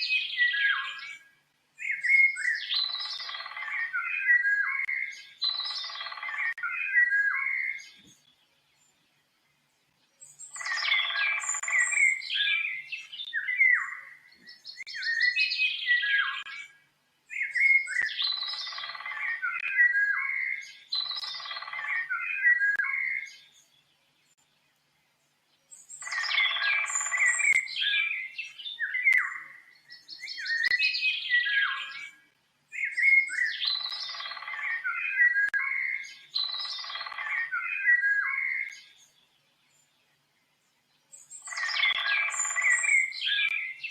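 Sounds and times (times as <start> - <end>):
birds chirping and singing: 0.0 - 43.9.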